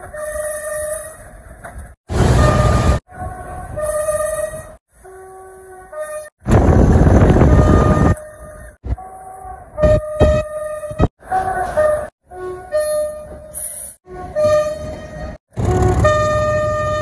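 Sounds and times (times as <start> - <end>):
locomotive horn blasts: 0.0 - 1.4, 2.1 - 17.0
engine and rail noise: 0.0 - 17.0.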